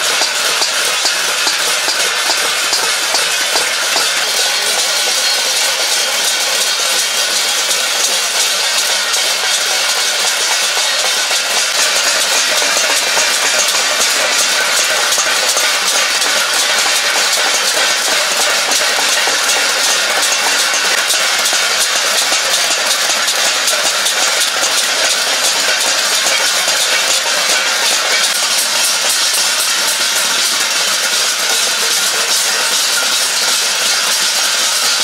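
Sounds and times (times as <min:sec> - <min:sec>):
spoons beating steel plates: 0:00.0 - 0:35.0.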